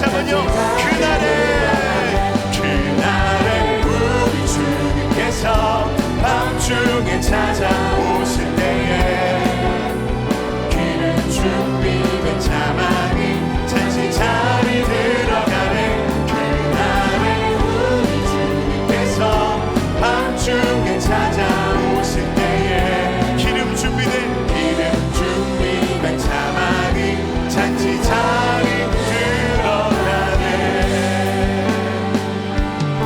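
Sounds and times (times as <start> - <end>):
drums keeping a beat: 0.0 - 33.0
worship band and singers: 0.0 - 33.0.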